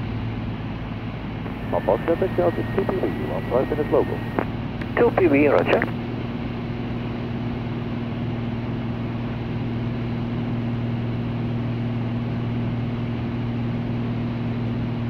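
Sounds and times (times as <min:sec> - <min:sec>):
propeller aircraft engine drone: 0:00.0 - 0:15.0.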